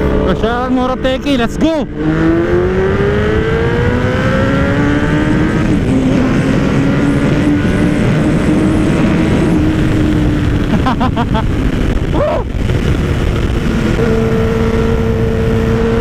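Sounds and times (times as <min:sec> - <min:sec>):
motorcycle engine accelerating: 0:00.0 - 0:16.0
wind rush on microphone: 0:00.0 - 0:16.0.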